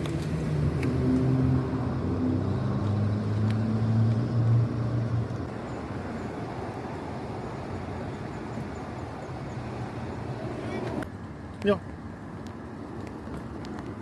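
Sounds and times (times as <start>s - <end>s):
car engine humming: 0.0s - 14.0s
road traffic noise: 0.0s - 14.0s.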